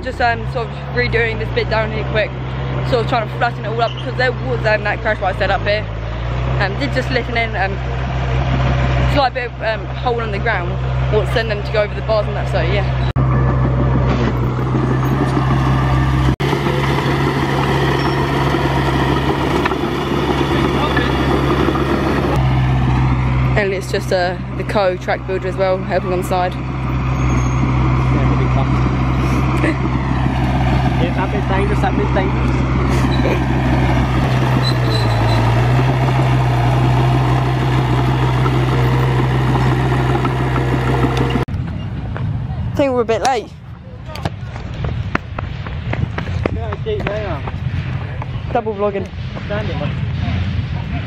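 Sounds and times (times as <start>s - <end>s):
bulldozer diesel engine running: 0.0s - 43.4s.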